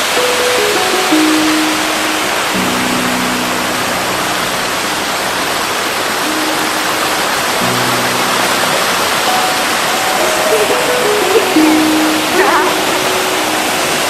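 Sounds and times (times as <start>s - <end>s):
water rushing down stream: 0.0s - 14.0s.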